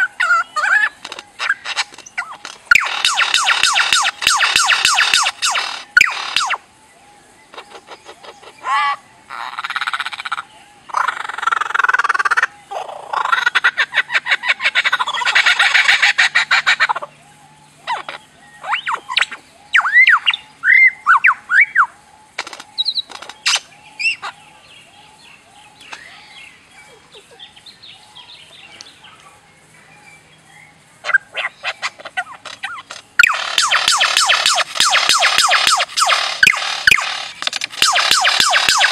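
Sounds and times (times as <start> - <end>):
lyrebird singing mimicry: 0.0 - 38.9.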